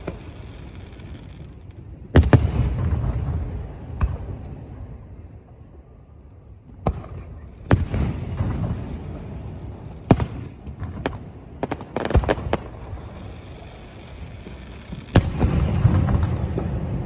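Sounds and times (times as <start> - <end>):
fireworks bursting with booms: 0.0 - 5.0, 6.8 - 17.0
fireworks rumbling and crackle: 0.0 - 17.0.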